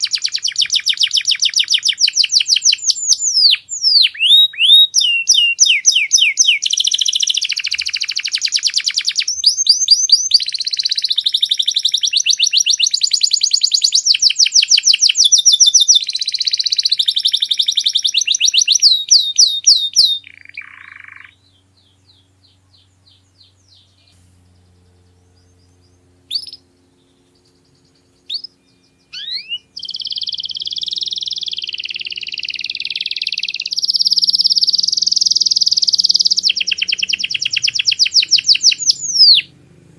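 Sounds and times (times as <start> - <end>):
canary chirps: 0.0 - 39.5
canary singing trills: 0.0 - 39.6.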